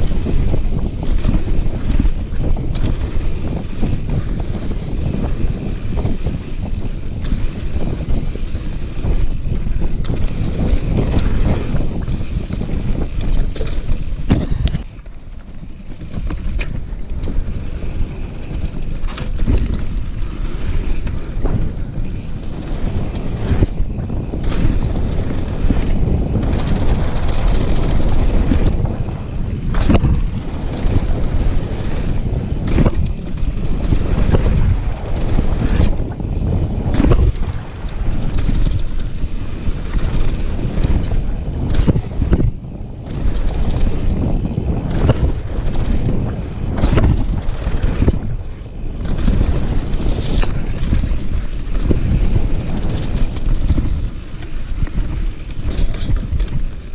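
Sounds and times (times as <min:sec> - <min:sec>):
bike knocking over bumps: 0:00.0 - 0:56.9
wind rushing over microphone: 0:00.0 - 0:56.9.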